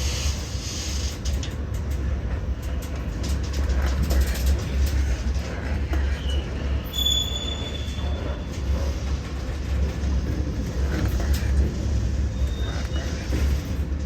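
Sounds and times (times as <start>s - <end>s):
train clanks and knocks: 0.0s - 14.0s
train rumbling: 0.0s - 14.0s.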